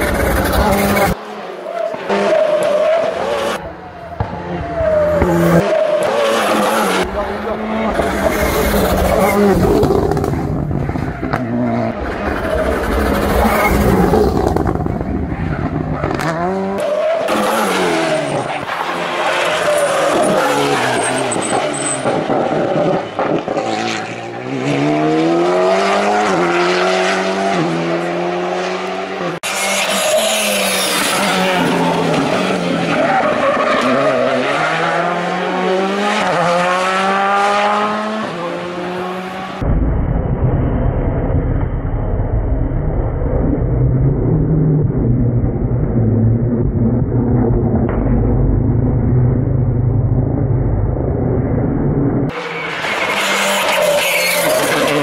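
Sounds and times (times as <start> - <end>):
rally car engines revving: 0.0 - 39.7, 42.9 - 55.0.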